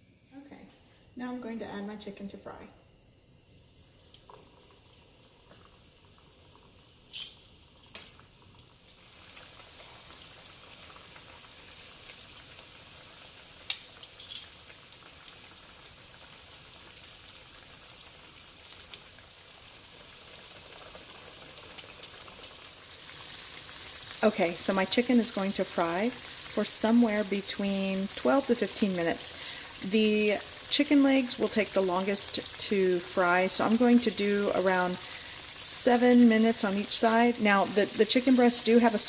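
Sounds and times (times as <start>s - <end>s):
chicken frying in hot oil: 3.8s - 39.0s.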